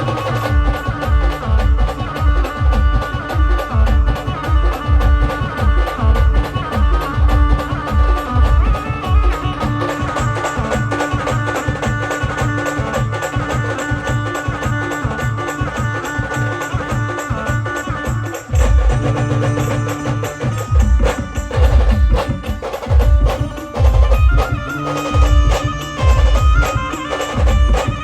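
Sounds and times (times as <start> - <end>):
live band music: 0.0 - 28.0.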